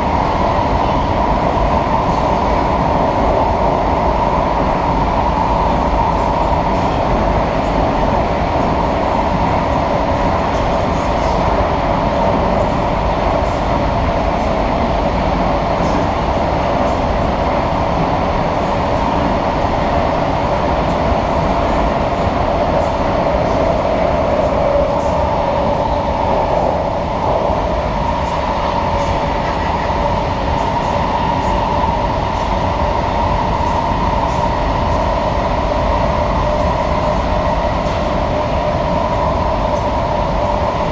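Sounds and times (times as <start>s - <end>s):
train rumble in tunnel: 0.0s - 40.9s.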